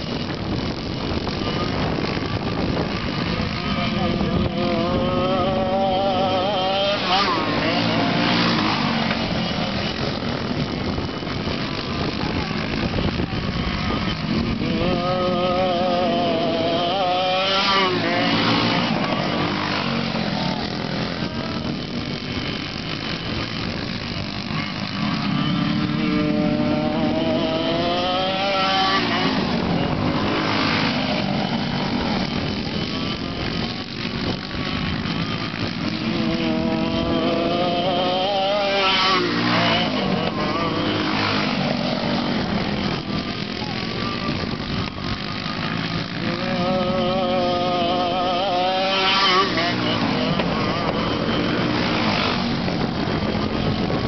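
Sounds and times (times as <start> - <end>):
kart engines revving: 0.0 - 54.0.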